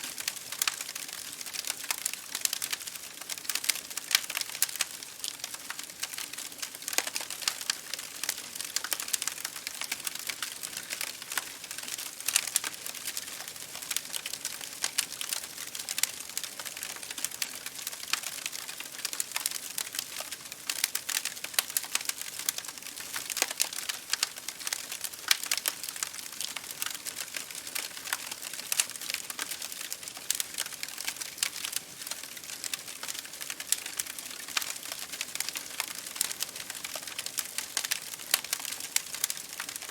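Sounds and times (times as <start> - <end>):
rain pattering on a window: 0.0 - 39.9
wood fire crackling and popping: 0.0 - 39.9.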